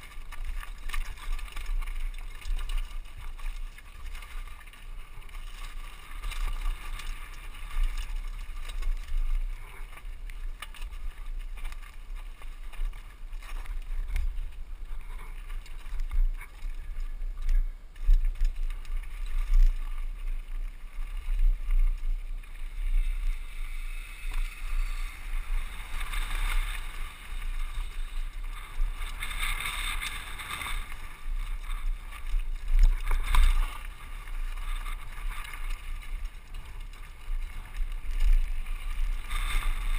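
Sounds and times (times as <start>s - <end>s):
bike rattling: 0.0s - 39.9s
wind rumble on microphone: 0.0s - 39.9s.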